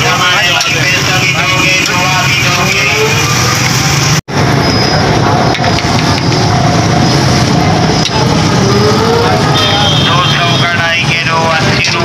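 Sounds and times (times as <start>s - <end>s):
busy street traffic: 0.0s - 12.0s.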